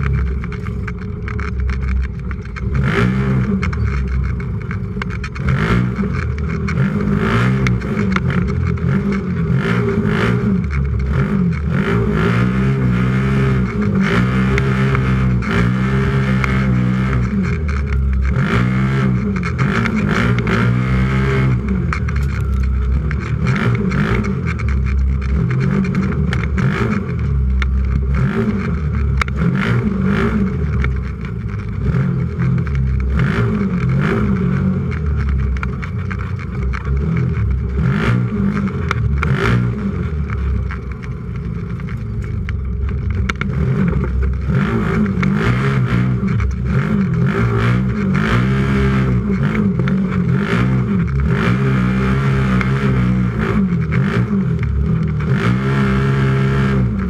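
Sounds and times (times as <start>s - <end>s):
chassis knocks and rattles: 0.0s - 12.0s, 13.5s - 51.5s
utv engine revving: 0.0s - 57.0s.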